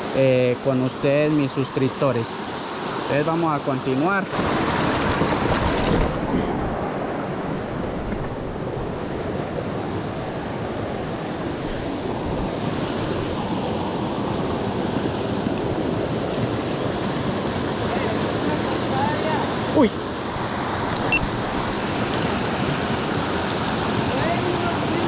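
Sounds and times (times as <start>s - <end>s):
creek water flowing: 0.0s - 25.0s.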